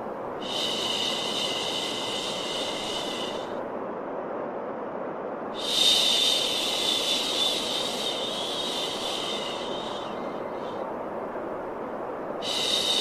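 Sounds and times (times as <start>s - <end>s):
shushing hiss: 0.0s - 3.7s, 5.5s - 13.0s
steady white noise: 0.0s - 13.0s.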